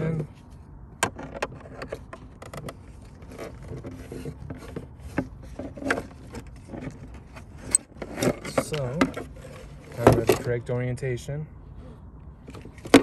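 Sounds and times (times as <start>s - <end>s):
plastic scraping on carpet and metal: 0.0s - 10.7s, 11.8s - 13.0s.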